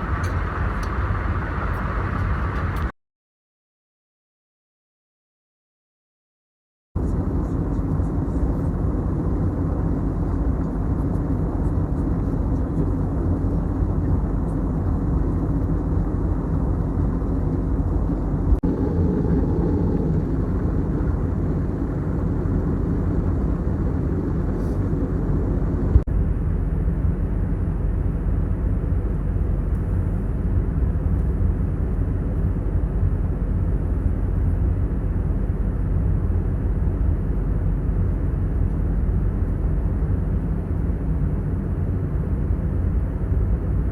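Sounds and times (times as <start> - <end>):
airplane cabin engine rumble: 0.0 - 3.0, 7.0 - 43.9.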